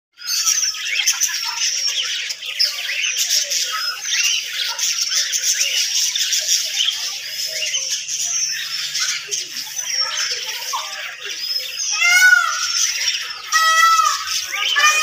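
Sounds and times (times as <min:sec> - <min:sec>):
parrots chattering and squawking: 0:00.2 - 0:15.0.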